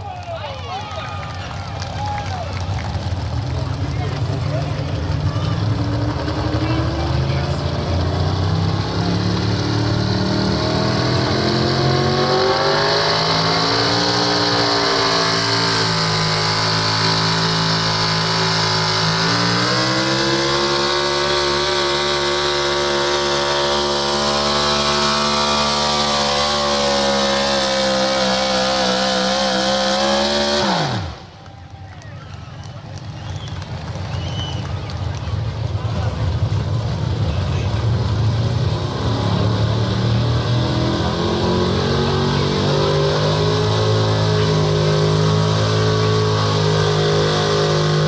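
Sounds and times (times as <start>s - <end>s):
truck engine at full throttle: 0.0s - 48.0s.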